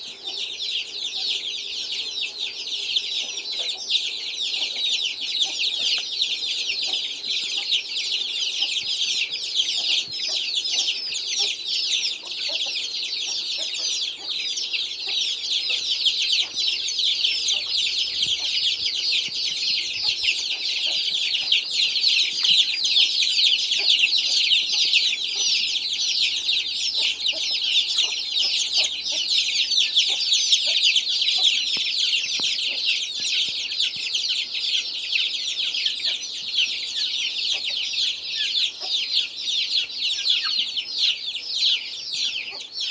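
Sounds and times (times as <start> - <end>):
chicks peeping: 0.0 - 42.9.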